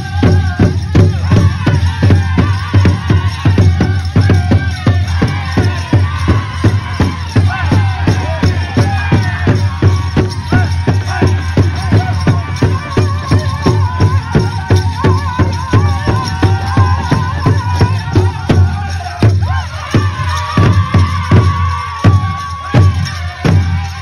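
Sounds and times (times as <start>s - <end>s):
high-pitched voices singing: 0.0s - 24.0s
large drum steady beat: 0.0s - 24.0s.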